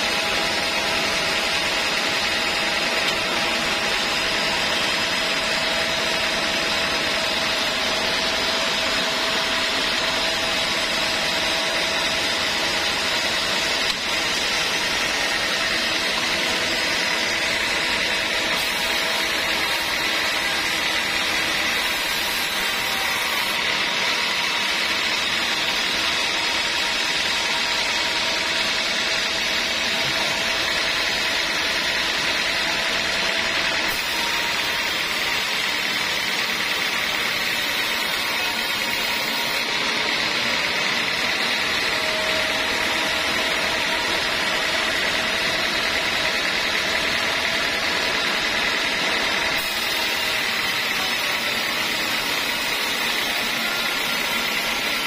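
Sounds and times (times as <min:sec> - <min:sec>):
band sawmill cutting log: 0:00.0 - 0:55.0
steady machine whine: 0:00.0 - 0:55.0.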